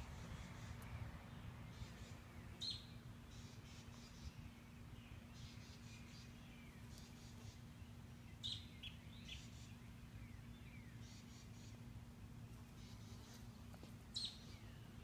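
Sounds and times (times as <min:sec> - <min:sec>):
songbird chirping: 0:00.0 - 0:15.0
steady low hum: 0:00.0 - 0:15.0.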